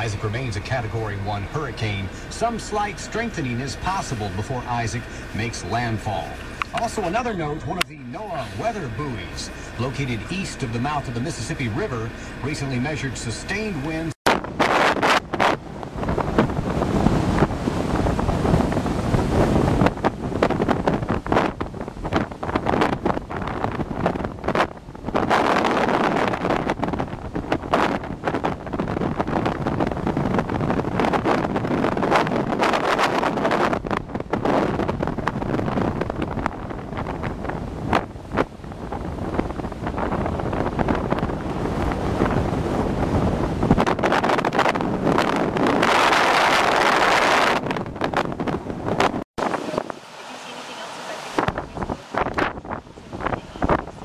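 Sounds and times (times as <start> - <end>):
heavy surf breaking: 0.0 - 54.0
wind gusts buffeting microphone: 0.0 - 54.0.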